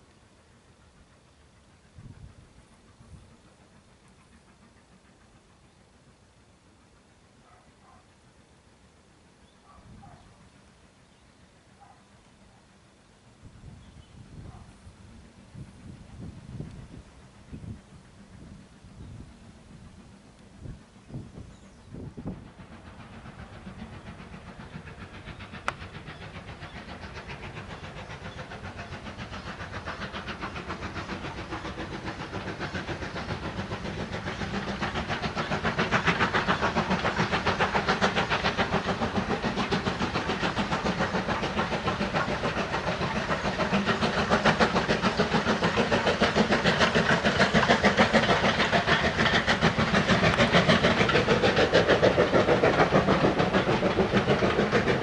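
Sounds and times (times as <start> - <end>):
steam locomotive exhaust beat: 0.0 - 55.0.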